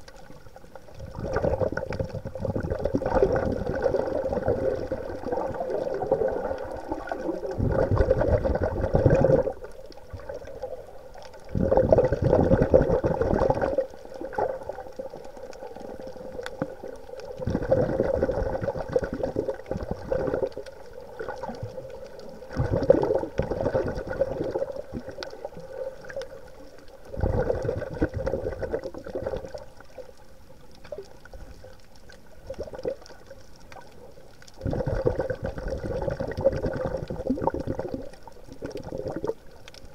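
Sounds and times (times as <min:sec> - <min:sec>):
underwater breath and bubbles: 0:00.0 - 0:39.9.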